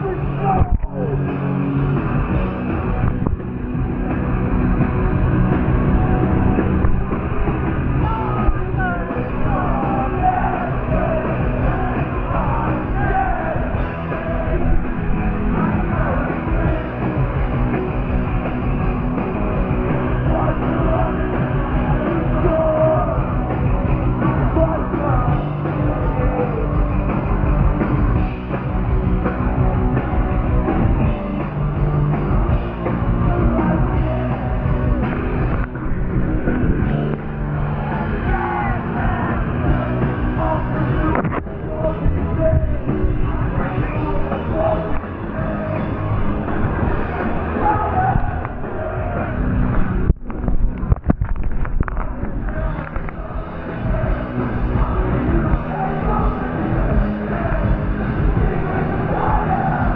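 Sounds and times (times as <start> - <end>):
punk rock band playing live: 0.0 - 59.9.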